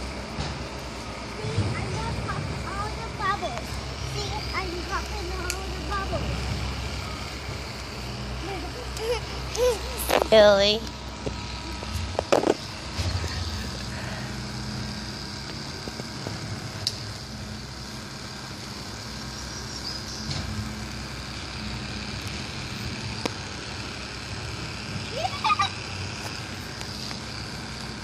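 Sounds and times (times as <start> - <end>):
toy motor humming: 3.0 - 16.4, 17.2 - 28.0.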